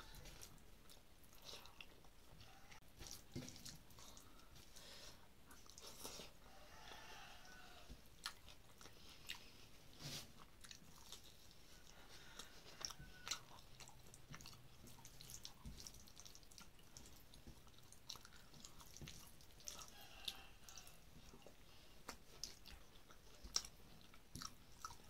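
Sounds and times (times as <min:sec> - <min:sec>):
faint chewing: 0:00.0 - 0:25.0.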